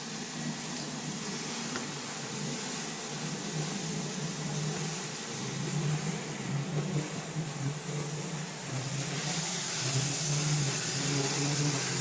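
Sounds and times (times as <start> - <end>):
broad hiss of wood shaving: 0.0 - 12.0
machine low mechanical hum: 0.0 - 12.0.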